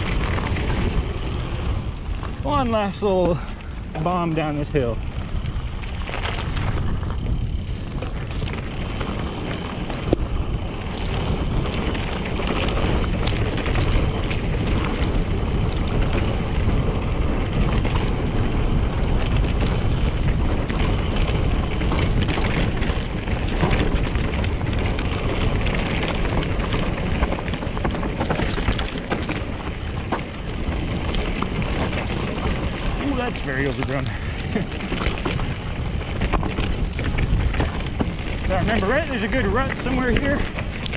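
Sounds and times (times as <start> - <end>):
bike clicks and knocks: 0.0 - 40.9
tyres rumbling on dirt: 0.0 - 40.9
wind rushing over microphone: 0.0 - 40.9.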